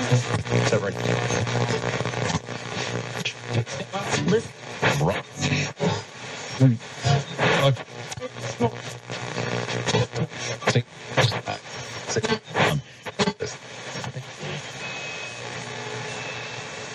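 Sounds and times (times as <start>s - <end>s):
radio voices: 0.0s - 16.7s
radio static hiss: 0.0s - 16.9s.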